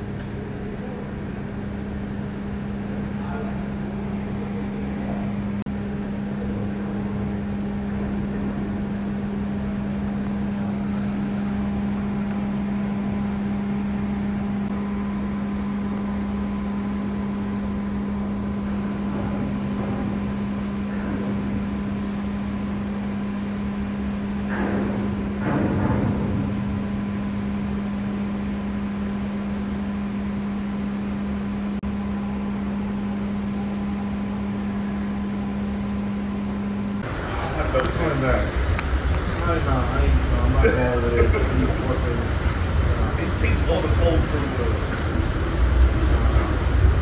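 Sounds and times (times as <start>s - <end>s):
machinery hum with fan hiss: 0.0s - 47.0s.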